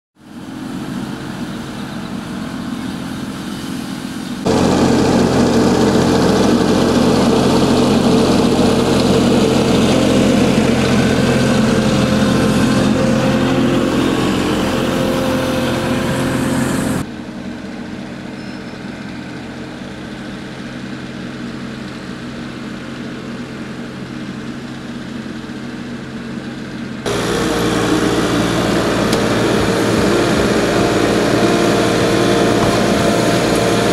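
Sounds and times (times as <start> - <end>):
loader diesel engine running: 0.2 - 33.9.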